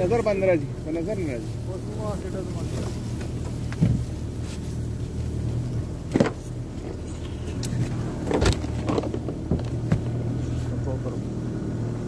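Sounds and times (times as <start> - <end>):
small boat motor humming: 0.0 - 12.0.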